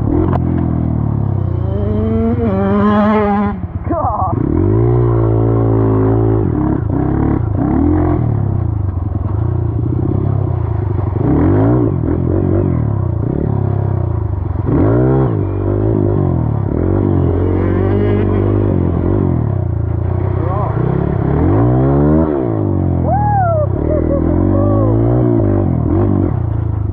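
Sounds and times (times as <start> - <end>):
dirt bike engine revving: 0.0 - 26.9
steady low drone: 0.0 - 26.9.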